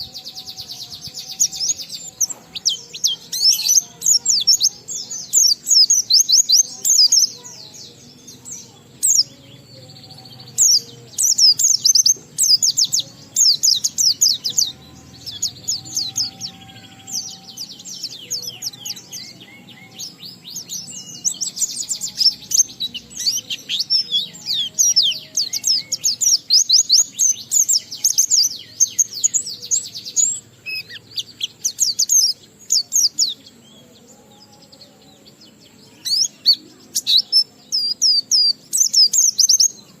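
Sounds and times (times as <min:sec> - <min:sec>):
bird twittering song: 0:00.0 - 0:40.0.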